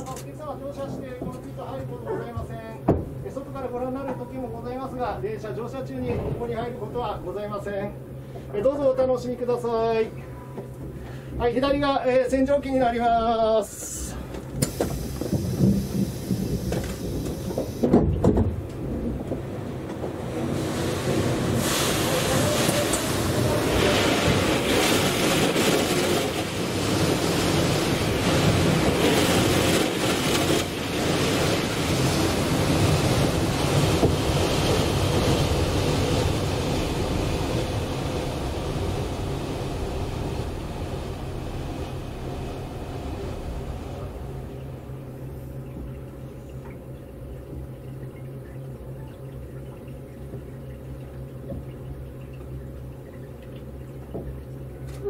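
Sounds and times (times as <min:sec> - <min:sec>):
steady low hum: 0:00.0 - 0:55.0
water rushing against train: 0:00.0 - 0:55.0.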